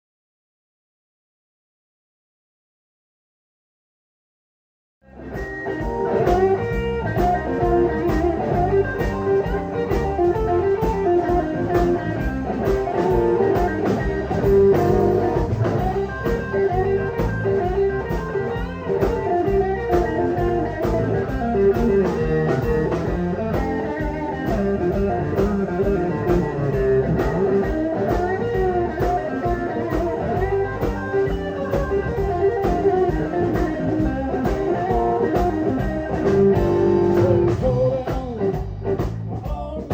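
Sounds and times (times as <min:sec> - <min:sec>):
electric guitar: 0:05.0 - 0:39.9
blues band playing: 0:05.1 - 0:39.9.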